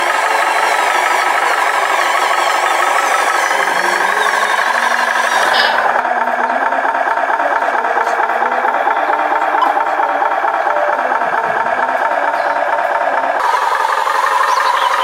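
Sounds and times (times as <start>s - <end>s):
toy truck droning and rattling: 0.0s - 15.0s.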